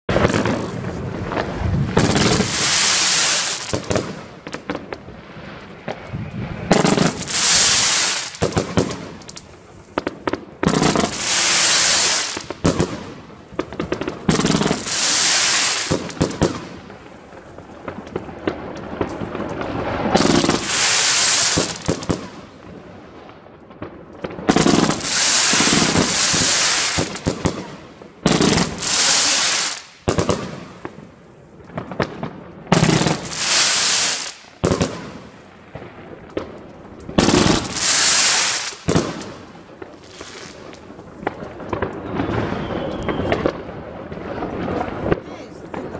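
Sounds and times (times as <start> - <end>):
firework shots popping: 0.1 - 17.0, 17.8 - 22.5, 23.8 - 31.0, 31.7 - 45.9
firework crackling bursts: 0.1 - 45.9.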